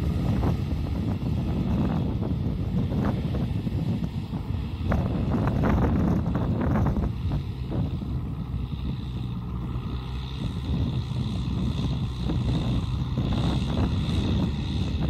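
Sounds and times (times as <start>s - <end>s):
tractor diesel engine running: 0.0s - 15.0s
wind buffeting microphone: 0.0s - 15.0s.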